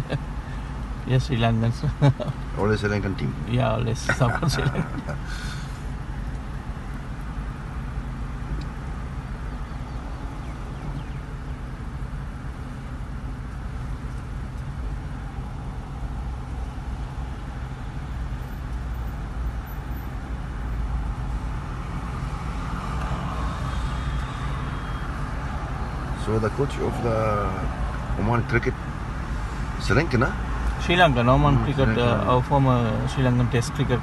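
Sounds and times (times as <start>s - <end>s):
car engine idling: 0.0s - 34.0s
road traffic: 0.0s - 34.0s.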